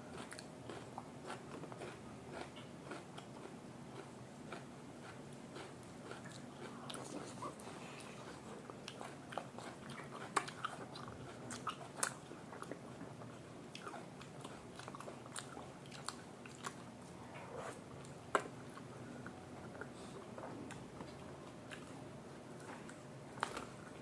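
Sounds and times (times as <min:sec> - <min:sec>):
chewing food: 0:00.1 - 0:22.0.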